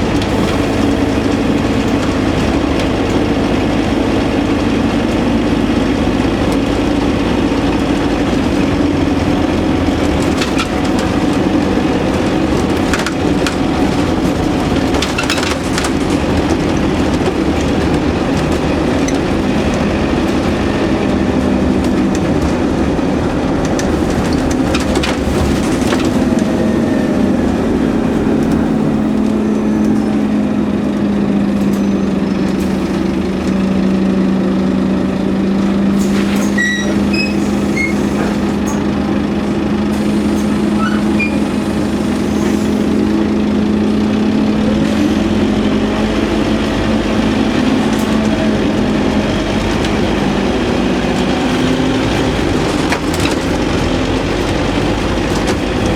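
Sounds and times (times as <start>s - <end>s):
bus diesel engine running: 0.0s - 55.9s
road noise: 0.0s - 55.9s.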